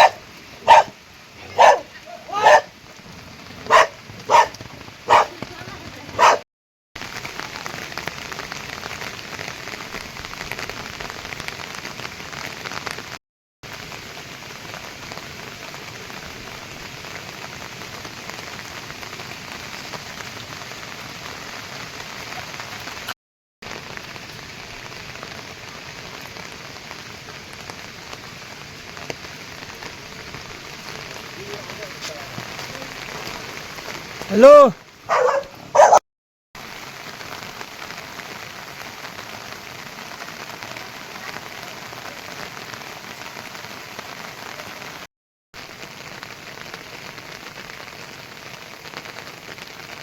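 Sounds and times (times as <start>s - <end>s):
steady rain falling: 0.0s - 6.4s, 7.0s - 36.0s, 36.6s - 50.0s.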